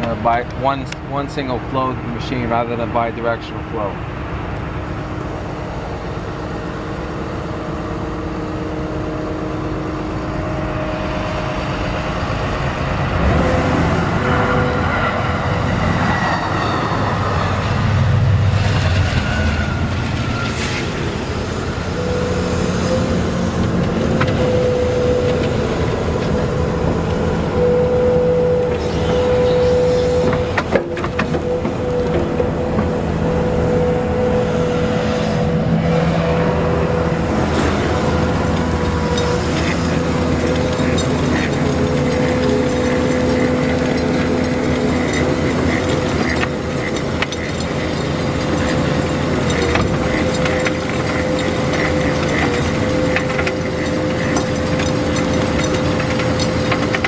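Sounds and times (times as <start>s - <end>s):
excavator engine and hydraulics: 0.0s - 57.0s
passing train rumble: 0.0s - 57.0s
steady whine: 0.0s - 57.0s.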